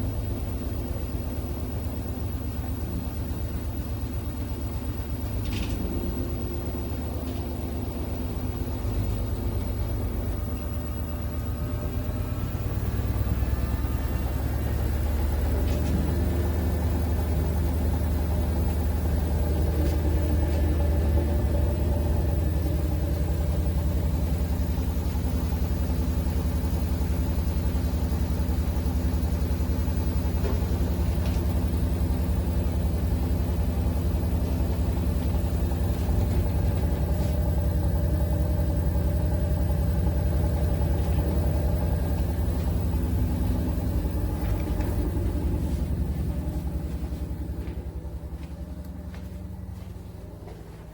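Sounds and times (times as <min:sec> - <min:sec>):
machine humming: 0:00.0 - 0:50.9.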